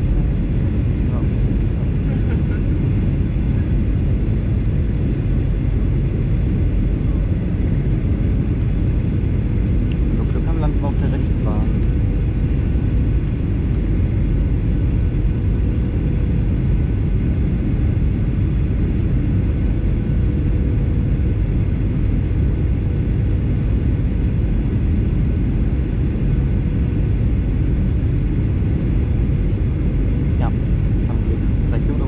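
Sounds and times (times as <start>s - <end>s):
engine and airflow rumble: 0.0s - 32.0s.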